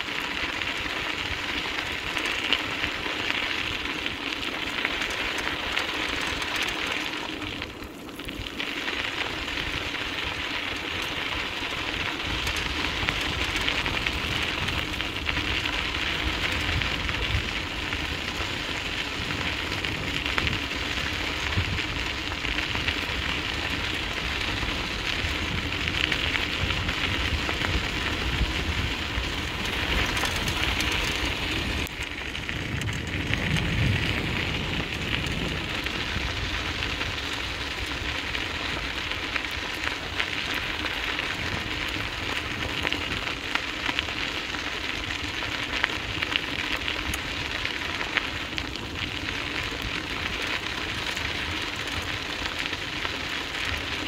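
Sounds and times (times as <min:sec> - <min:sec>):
wheels rolling over dirt trail: 0:00.0 - 0:54.0.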